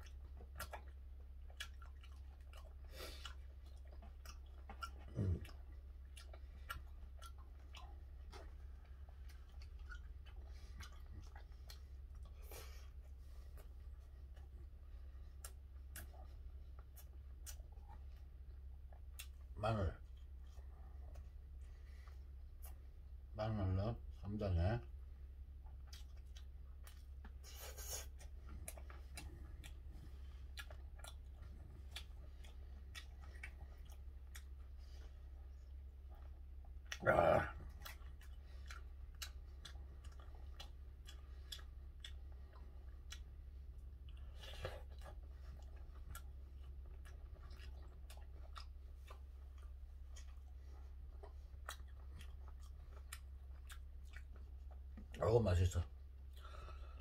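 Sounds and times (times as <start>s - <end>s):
man chewing with wet mouth clicks: 0.0s - 23.3s, 24.0s - 55.2s, 55.8s - 57.0s.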